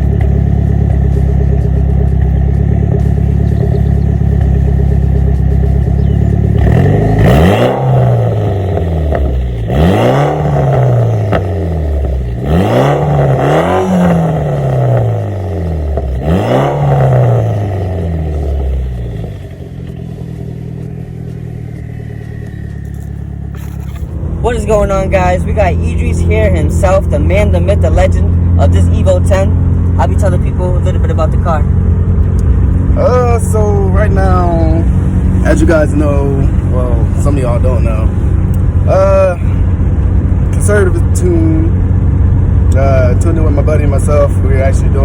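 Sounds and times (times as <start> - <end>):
car engine idling: 0.0 - 45.0
car engine revving: 0.0 - 45.0.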